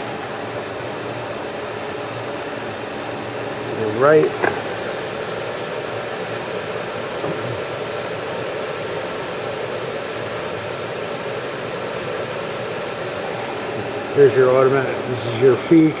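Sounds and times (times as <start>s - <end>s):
milling machine whirring: 0.0s - 16.0s.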